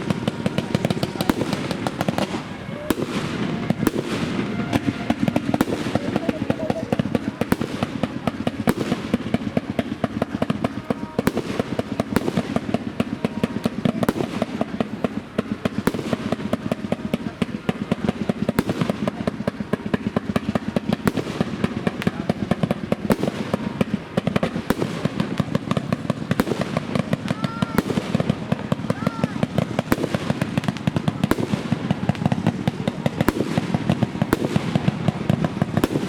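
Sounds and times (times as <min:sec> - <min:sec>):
fireworks bangs and crackles: 0:00.0 - 0:36.0
loud firework bangs: 0:00.0 - 0:36.0.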